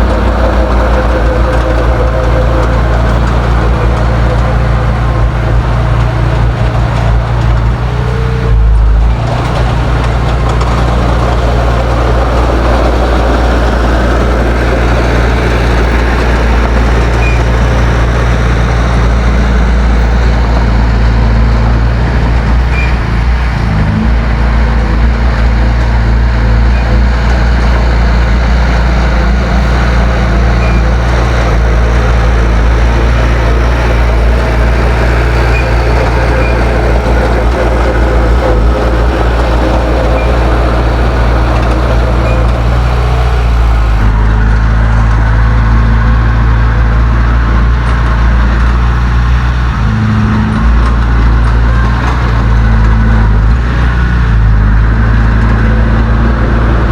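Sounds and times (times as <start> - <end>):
bulldozer diesel engine running: 0.0 - 56.9
mechanical clatter: 0.0 - 56.9.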